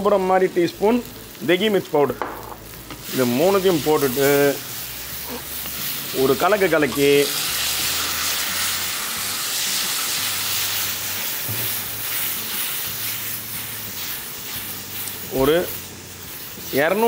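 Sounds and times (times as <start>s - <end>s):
water hissing in hot oil: 2.7s - 17.0s.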